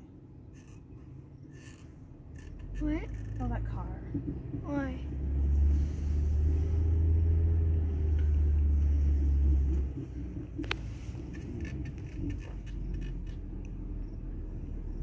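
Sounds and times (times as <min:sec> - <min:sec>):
car rumbling: 0:00.0 - 0:15.0.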